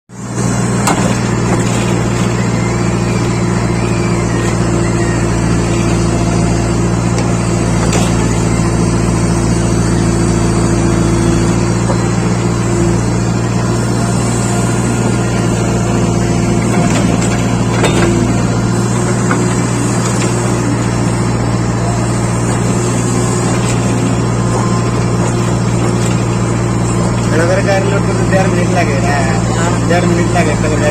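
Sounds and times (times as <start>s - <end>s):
diesel engine running: 0.1s - 30.9s.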